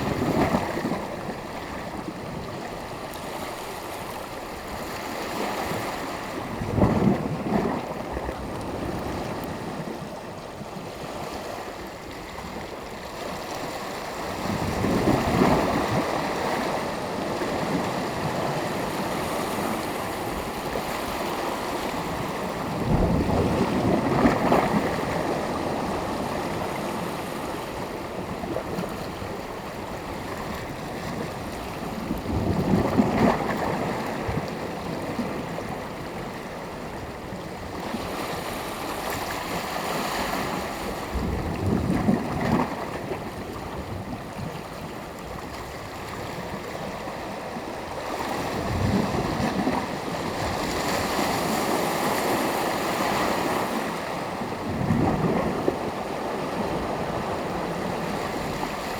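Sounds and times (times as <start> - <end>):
sea waves breaking on shore: 0.0 - 58.9.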